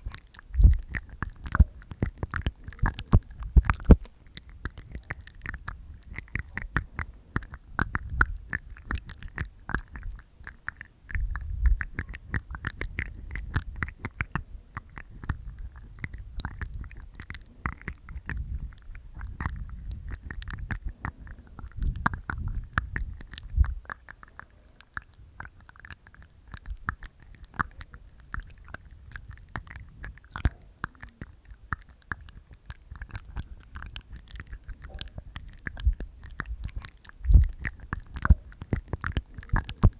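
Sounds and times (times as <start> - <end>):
wet tongue and teeth clicks: 0.0 - 39.9.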